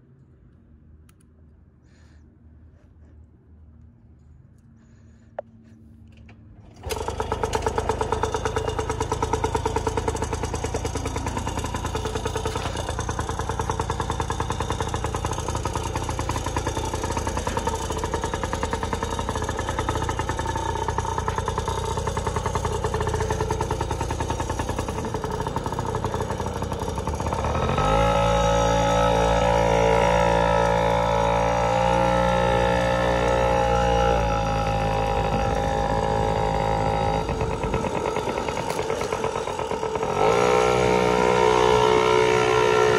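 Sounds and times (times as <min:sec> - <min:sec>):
dirt bike engine running: 0:06.8 - 0:42.9.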